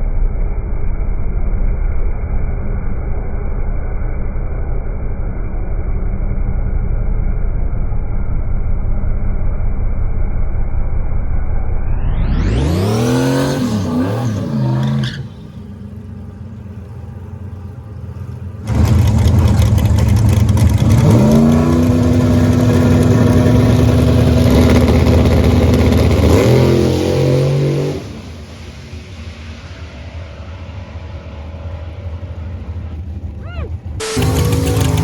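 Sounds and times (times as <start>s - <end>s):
race car engines at full throttle: 0.5s - 35.0s.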